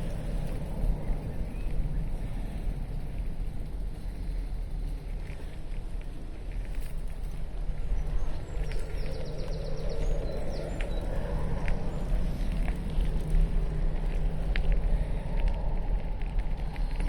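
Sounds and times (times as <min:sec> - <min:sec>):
bicycle road rumble: 0:00.0 - 0:17.0
wind buffeting microphone: 0:00.0 - 0:17.0.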